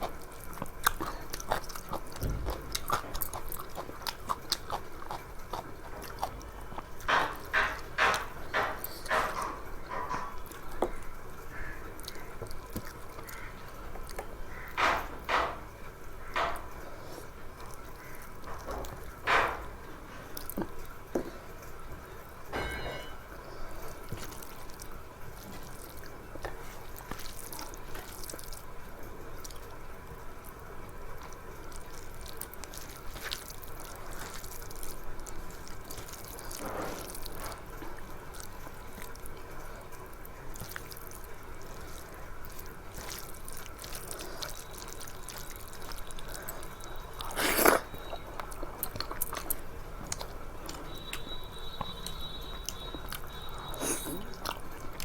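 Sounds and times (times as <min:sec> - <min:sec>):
wet chewing sounds: 0:00.0 - 0:22.5, 0:23.2 - 0:55.0.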